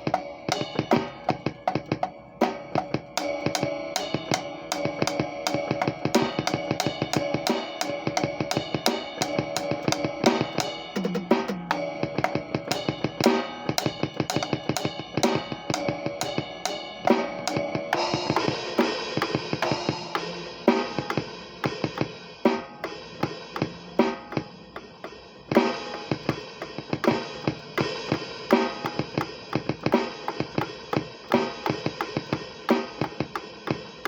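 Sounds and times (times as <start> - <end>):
cymbals ringing: 0.0 - 32.8
drum kit playing: 0.0 - 34.0.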